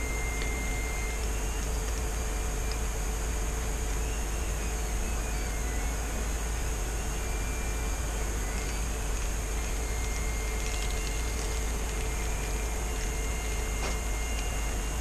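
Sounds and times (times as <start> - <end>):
room noise hum and hiss: 0.0 - 15.0.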